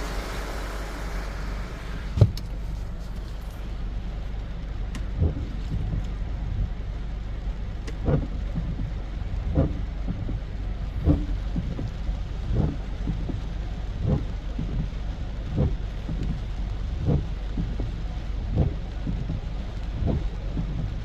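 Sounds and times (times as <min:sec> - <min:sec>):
dull low thump: 0:00.0 - 0:03.8, 0:04.8 - 0:06.8, 0:07.8 - 0:21.0
steady rain falling: 0:00.0 - 0:21.0.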